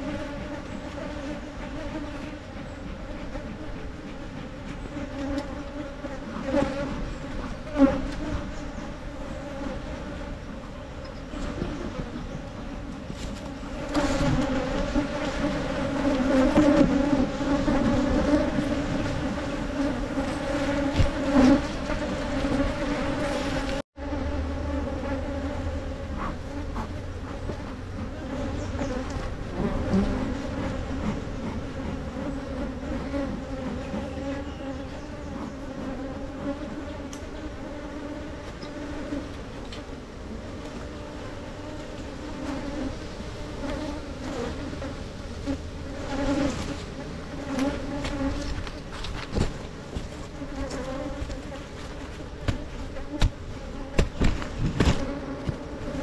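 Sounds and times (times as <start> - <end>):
bees buzzing: 0.0 - 56.0
higher bee hum: 0.0 - 56.0.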